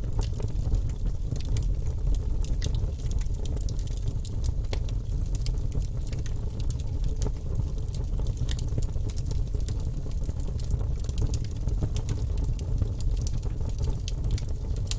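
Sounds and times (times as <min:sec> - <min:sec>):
fire crackling in a fireplace: 0:00.0 - 0:14.9.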